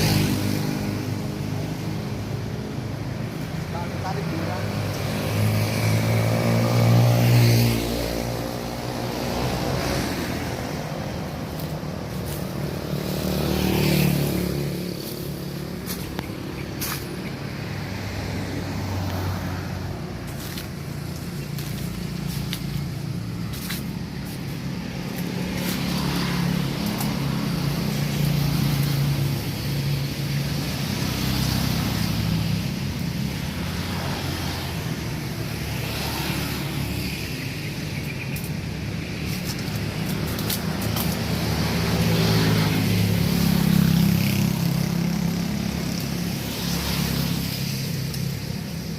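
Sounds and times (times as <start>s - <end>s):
vehicles passing on a road: 0.0s - 48.9s.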